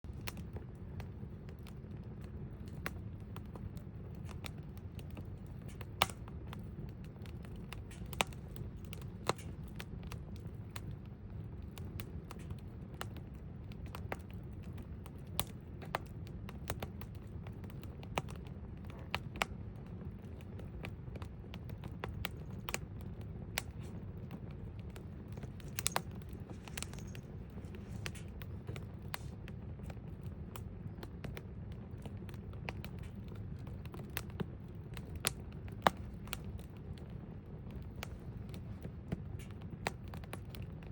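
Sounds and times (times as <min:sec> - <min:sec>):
campfire crackling and popping: 0:00.1 - 0:40.9.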